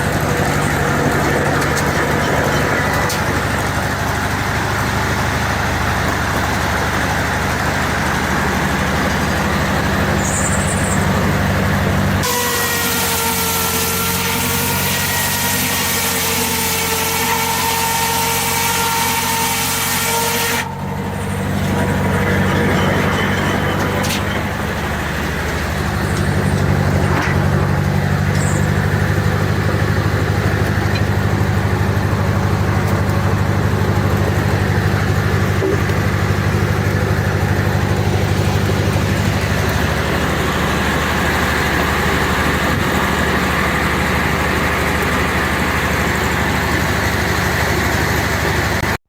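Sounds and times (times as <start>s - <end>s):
higher machine sound: 0.0s - 49.0s
sawmill machine drone: 0.0s - 49.0s.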